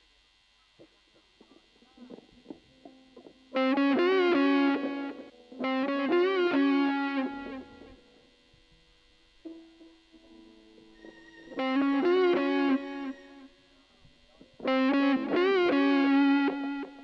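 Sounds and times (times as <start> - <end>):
electric guitar playing: 1.3 - 17.0.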